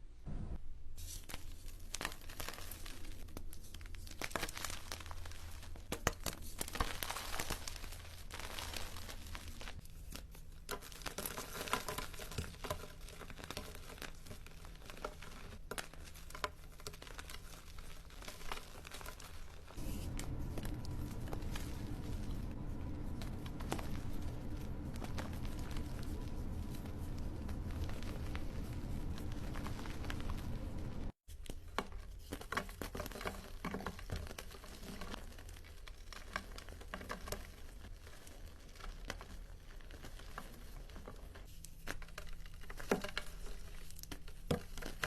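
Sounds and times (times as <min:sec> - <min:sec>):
crinkling and crackling: 0:00.3 - 0:45.0.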